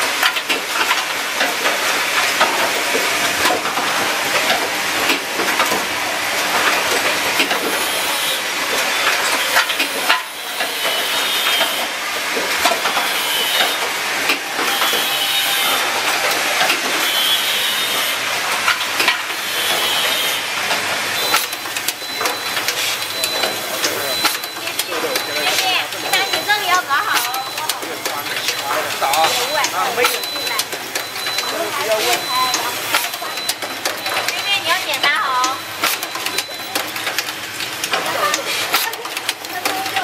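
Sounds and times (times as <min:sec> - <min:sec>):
machine mechanical clatter: 0:00.0 - 0:40.0.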